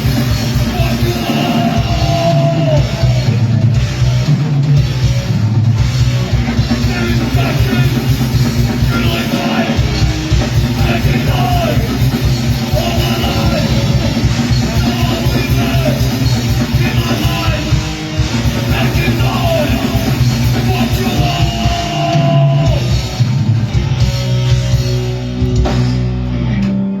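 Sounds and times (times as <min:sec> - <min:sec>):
bass guitar: 0:00.0 - 0:27.0
distorted electric guitars: 0:00.0 - 0:27.0
drum kit: 0:00.0 - 0:27.0.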